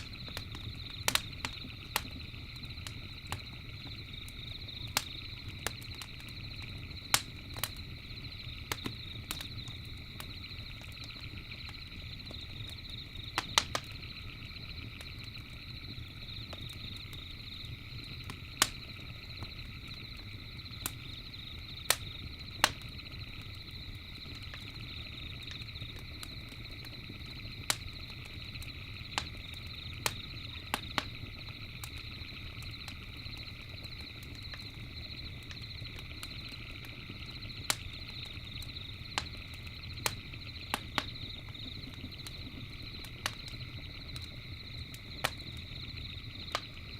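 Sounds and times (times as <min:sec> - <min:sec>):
campfire crackling and popping: 0:00.0 - 0:46.9
night insects or frogs chorus: 0:00.0 - 0:46.9.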